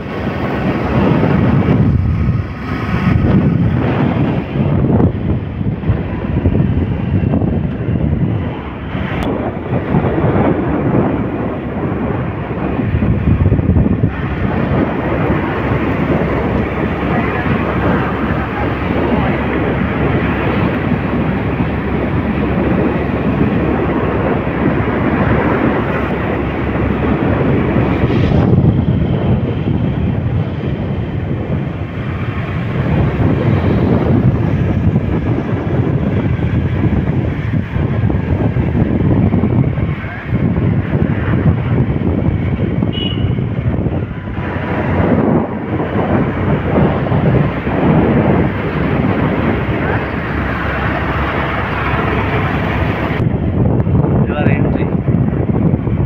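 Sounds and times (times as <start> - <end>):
motorbike engine and road noise: 0.0 - 56.0
wind buffeting microphone: 0.0 - 56.0.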